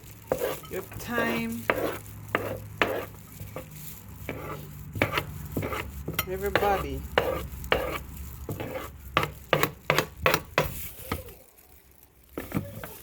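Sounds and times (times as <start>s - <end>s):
utensils scraping a dish: 0.0s - 11.3s.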